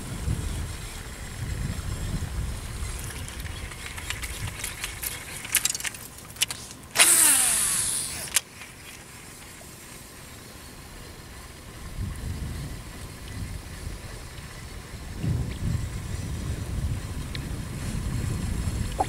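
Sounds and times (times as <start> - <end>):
fishing reel spool spinning: 0.0 - 19.0.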